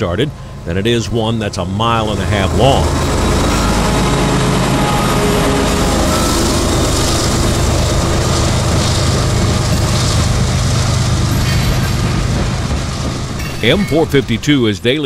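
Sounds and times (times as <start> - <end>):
diesel locomotive hum: 0.0 - 15.0
freight cars rolling over rails: 0.0 - 15.0.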